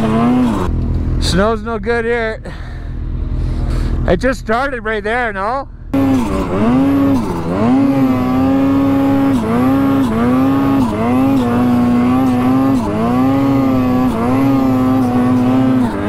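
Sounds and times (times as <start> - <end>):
snowmobile engine revving: 0.0 - 16.0.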